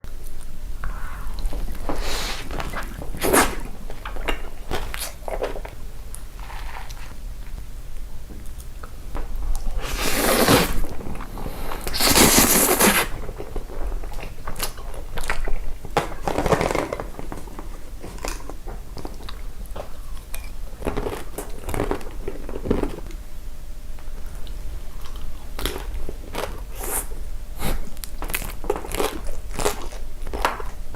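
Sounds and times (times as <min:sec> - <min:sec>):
chewing crunchy food: 0:00.2 - 0:07.6, 0:08.4 - 0:23.2, 0:24.3 - 0:30.9.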